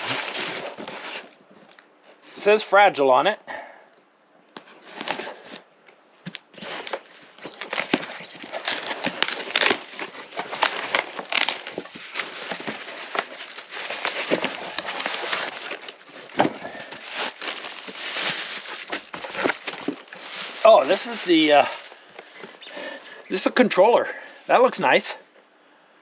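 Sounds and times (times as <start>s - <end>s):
packaging crinkling and rustling: 0.0s - 2.5s, 4.5s - 23.5s.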